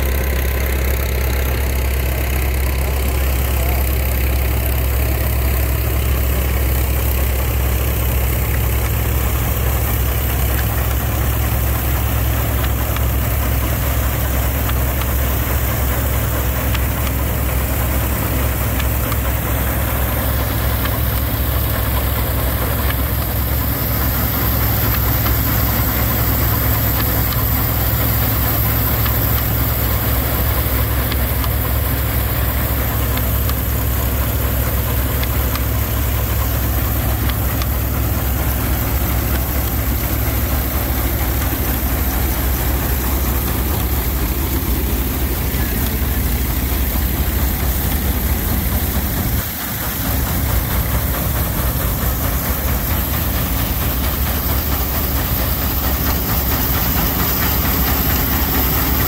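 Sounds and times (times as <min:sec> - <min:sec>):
threshing machine running: 0:00.0 - 0:59.0
tractor engine running: 0:00.0 - 0:59.0.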